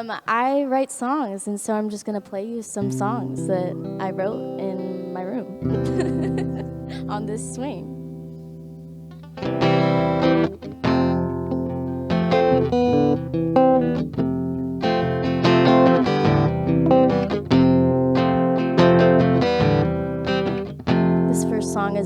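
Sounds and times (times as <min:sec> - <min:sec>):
guitar chords strummed: 0:02.8 - 0:22.0.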